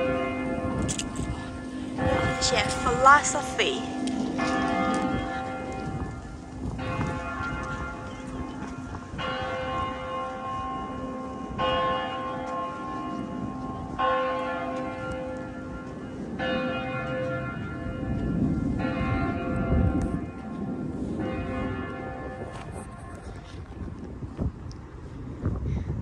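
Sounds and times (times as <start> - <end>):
large church bell tolling: 0.0 - 23.5.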